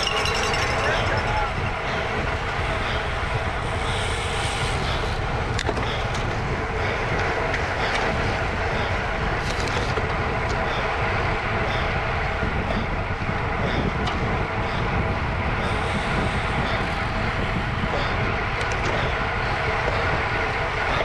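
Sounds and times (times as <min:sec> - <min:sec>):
road and tyre noise: 0:00.0 - 0:21.0
wind buffeting microphone: 0:00.0 - 0:21.0.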